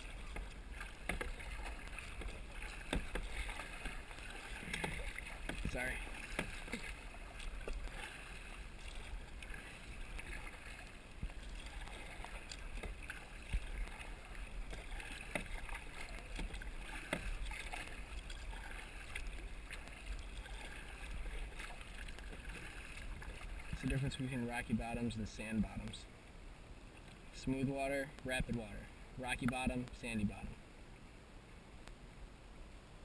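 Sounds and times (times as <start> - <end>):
water around kayak hull: 0.0 - 33.0.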